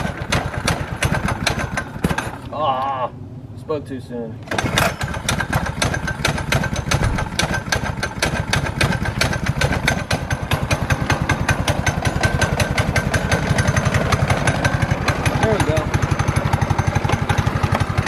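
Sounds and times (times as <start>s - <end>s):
small gas engine idling: 0.0s - 2.5s, 4.4s - 18.0s.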